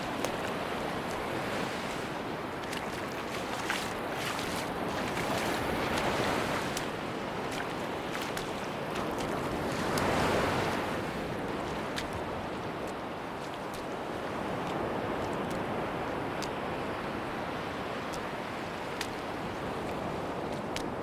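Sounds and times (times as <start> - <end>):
sea waves washing onto beach: 0.0 - 21.0.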